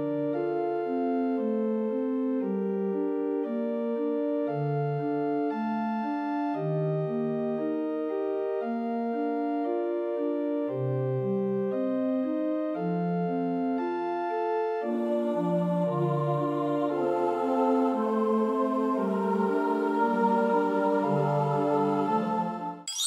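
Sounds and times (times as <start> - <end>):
organ-like keyboard melody: 0.0 - 23.0.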